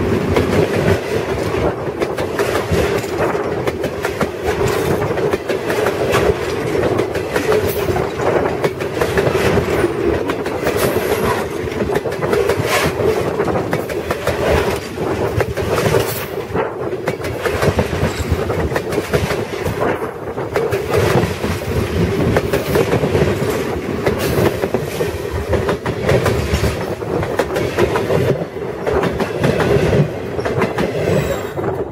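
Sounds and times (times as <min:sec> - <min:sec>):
steel wheels clattering on track: 0:00.2 - 0:31.9.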